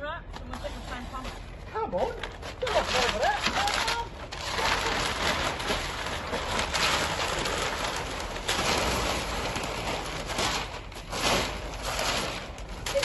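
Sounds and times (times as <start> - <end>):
paper tearing and rustling: 2.0 - 13.0.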